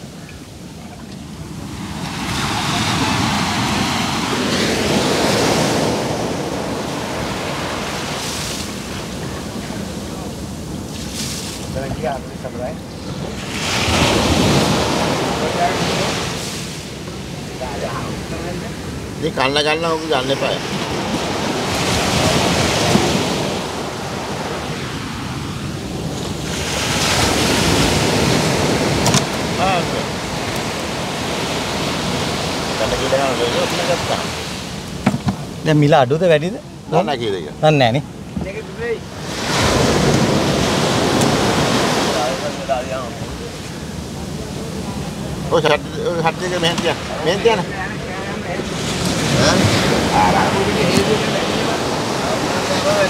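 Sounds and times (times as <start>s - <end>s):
sea waves surging: 0.0s - 53.0s
wind buffeting microphone: 0.0s - 53.0s.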